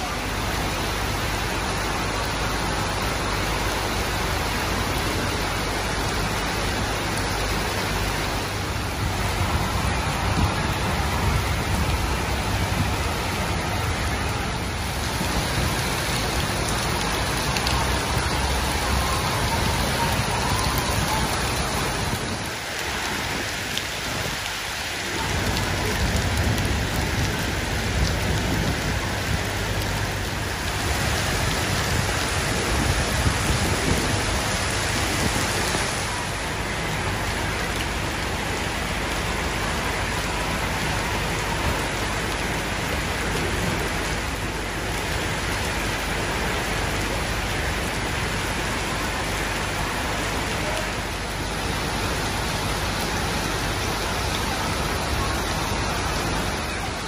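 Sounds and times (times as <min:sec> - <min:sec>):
heavy rain on flooded street: 0:00.0 - 0:57.0.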